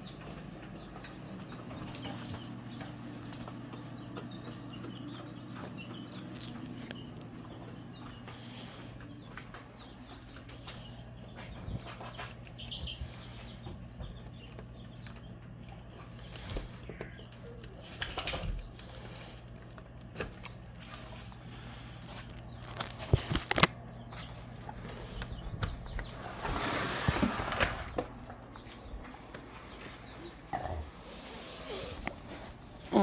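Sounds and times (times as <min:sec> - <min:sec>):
chickens moving about: 0:00.0 - 0:33.0.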